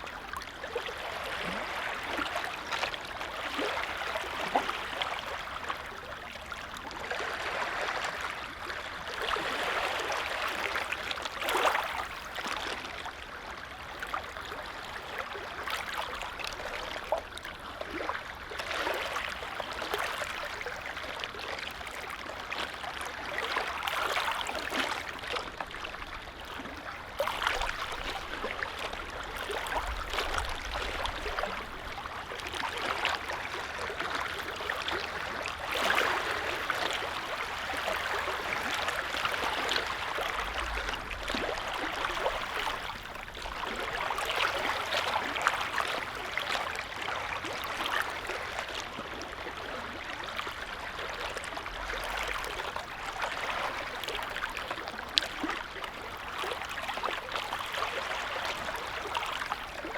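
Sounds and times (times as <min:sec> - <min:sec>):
lake waves lapping: 0:00.0 - 0:59.9.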